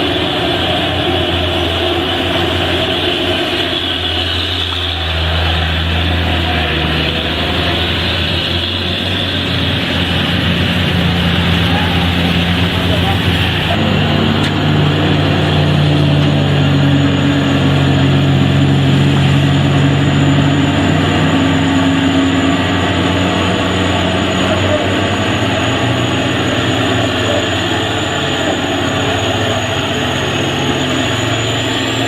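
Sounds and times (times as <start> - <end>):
heavy truck engine running: 0.0 - 32.0
road noise: 0.0 - 32.0.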